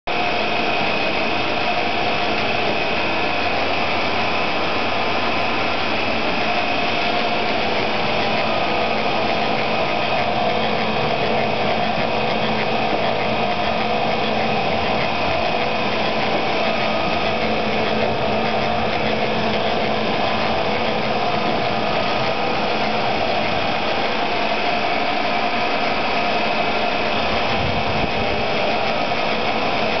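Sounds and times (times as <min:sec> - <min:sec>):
machinery humming: 0:00.1 - 0:30.0.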